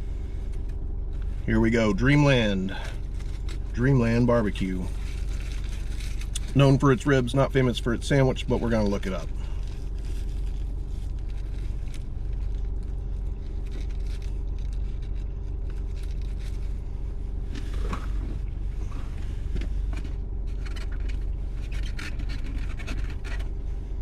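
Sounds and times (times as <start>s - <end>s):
car hum from inside cabin: 0.0s - 24.0s.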